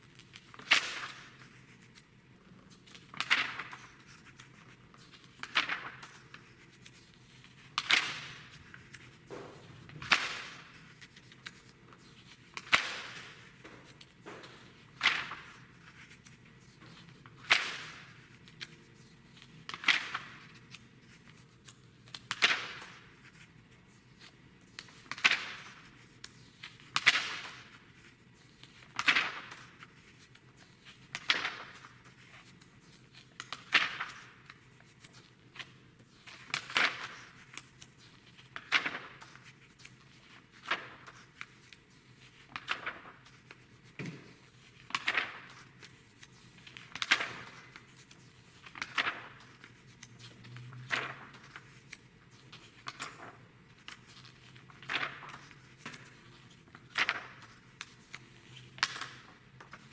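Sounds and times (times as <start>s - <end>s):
magazine pages turning: 0.1s - 59.9s.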